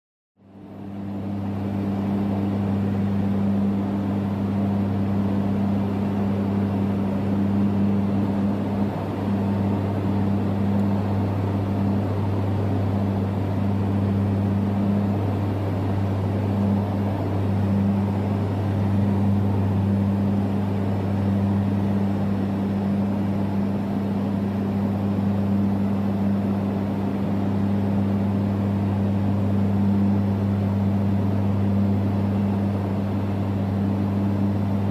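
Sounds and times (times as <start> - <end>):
engine and air noise: 0.4 - 34.9
higher engine hum: 0.4 - 34.9
propeller drone: 0.4 - 34.9.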